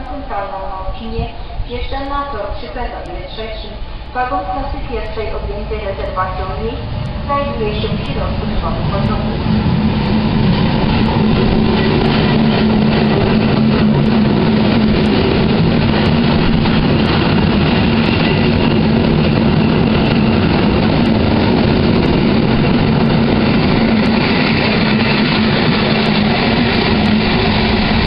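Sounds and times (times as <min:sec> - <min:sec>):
low drive hum: 0:00.0 - 0:28.0
train rolling past: 0:00.0 - 0:28.0.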